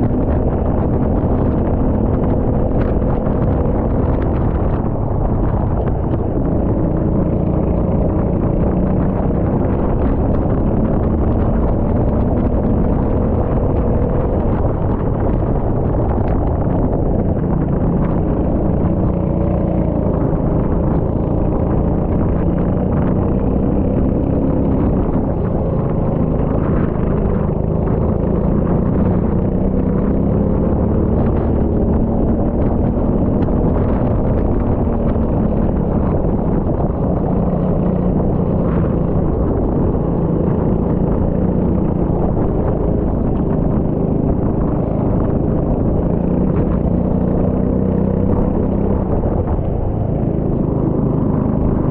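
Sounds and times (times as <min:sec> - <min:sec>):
go-kart engine running: 0:00.0 - 0:51.9.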